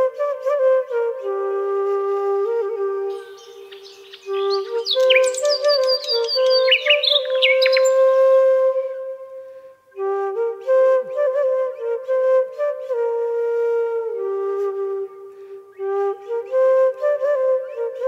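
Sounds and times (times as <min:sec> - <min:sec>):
flute music: 0:00.0 - 0:18.0.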